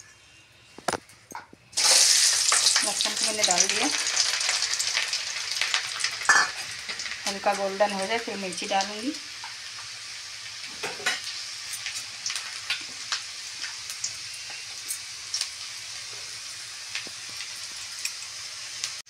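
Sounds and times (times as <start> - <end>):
oil popping and crackling: 1.8 - 9.9, 10.6 - 15.6, 16.8 - 19.0
garlic sizzling in hot oil: 1.8 - 19.0.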